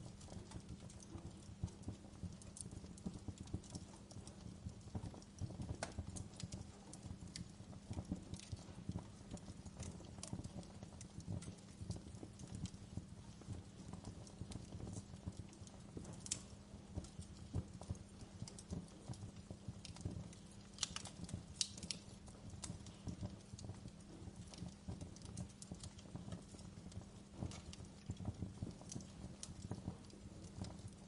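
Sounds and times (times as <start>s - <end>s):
fireplace crackling: 0.0s - 31.0s.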